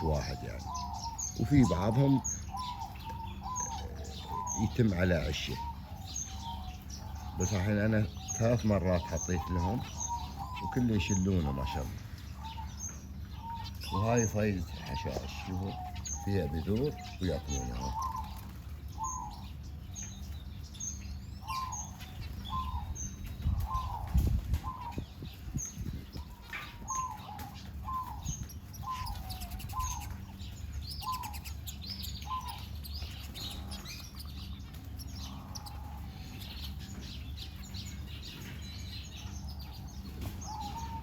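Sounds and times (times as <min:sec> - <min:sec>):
birds call notes: 0:00.0 - 0:41.0
higher bird chirps: 0:00.0 - 0:41.0
steady low hum: 0:00.0 - 0:41.0.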